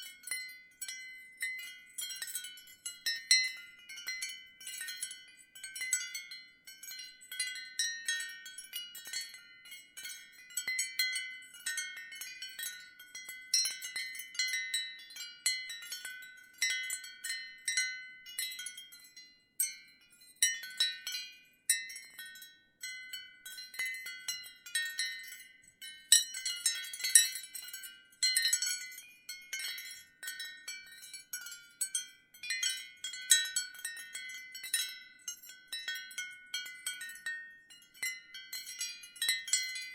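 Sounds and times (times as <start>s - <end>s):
ceramic wind chimes clinking: 0.0s - 39.9s.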